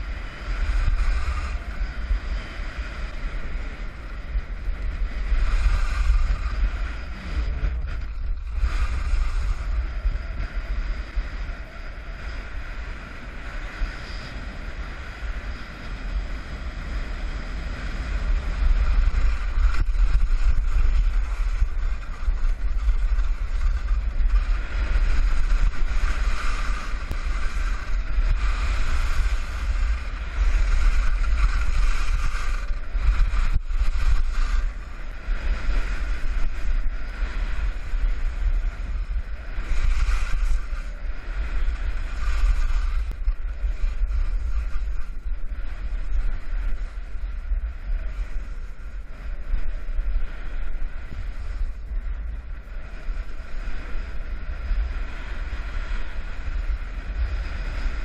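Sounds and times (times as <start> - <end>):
skis hissing and scraping on snow: 0.0 - 58.0
wind rumble on microphone: 0.0 - 58.0.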